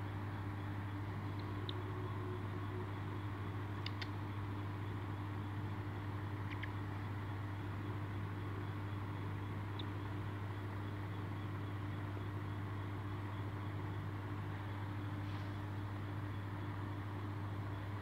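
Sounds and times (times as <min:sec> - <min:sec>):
low room hum with hiss: 0:00.0 - 0:18.0.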